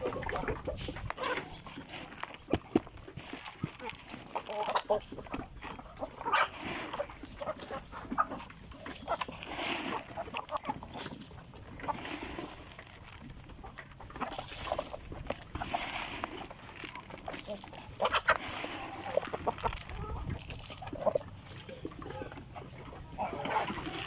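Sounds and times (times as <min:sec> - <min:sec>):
chickens clucking and calling: 0:00.0 - 0:24.0.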